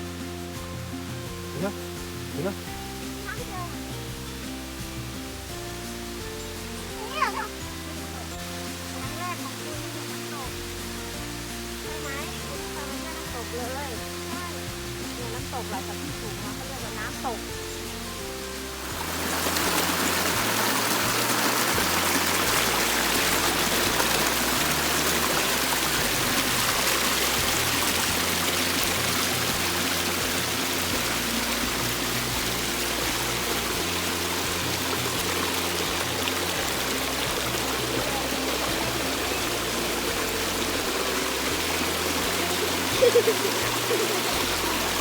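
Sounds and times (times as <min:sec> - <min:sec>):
background music low notes: 0:00.0 - 0:45.0
waterfall pouring and splashing: 0:00.0 - 0:45.0.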